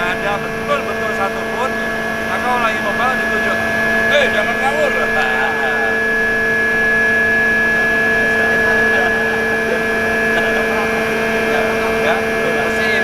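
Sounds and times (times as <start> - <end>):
pump machinery humming: 0.0 - 13.0.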